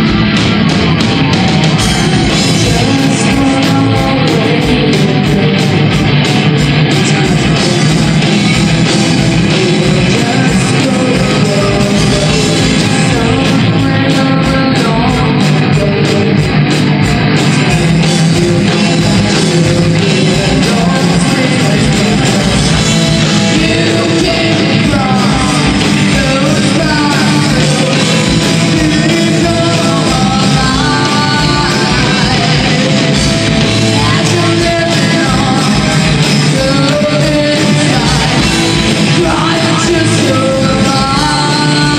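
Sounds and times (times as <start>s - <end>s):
bass guitar: 0.0s - 41.9s
distorted electric guitars: 0.0s - 41.9s
person singing: 0.8s - 41.9s.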